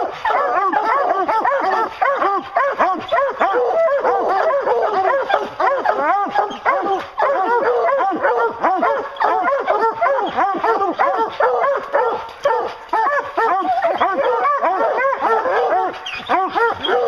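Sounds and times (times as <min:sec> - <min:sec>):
hounds barking and baying: 0:00.0 - 0:17.0.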